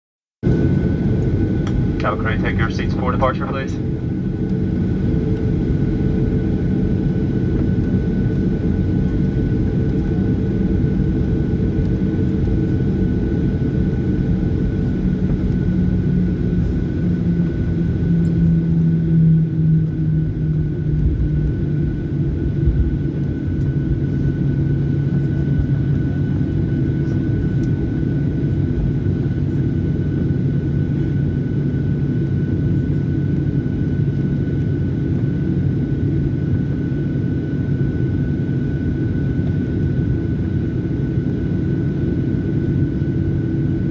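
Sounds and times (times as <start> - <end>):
jet engines droning in cabin: 0.4 - 43.9.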